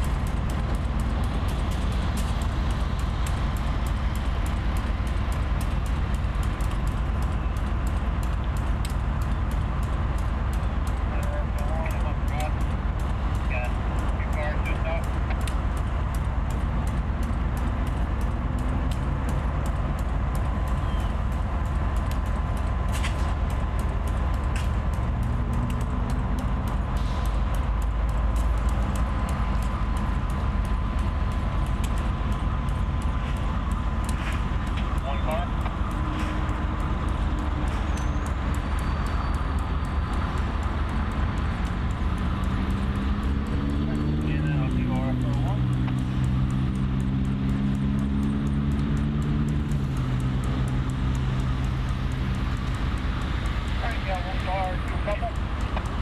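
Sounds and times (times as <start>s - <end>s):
diesel locomotive engine humming: 0.0s - 56.0s
rapid light ticks: 0.0s - 56.0s.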